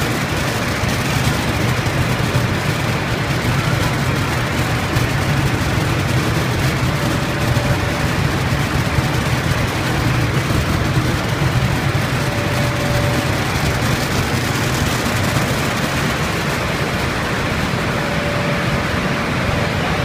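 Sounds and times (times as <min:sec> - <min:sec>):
food-processing machinery humming: 0:00.0 - 0:20.0.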